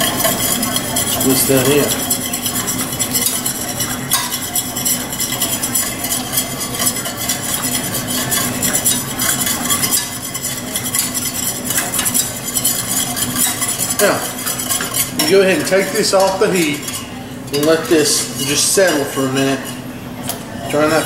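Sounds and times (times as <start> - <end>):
utensil stirring sauce in saucepan: 0.0 - 21.0.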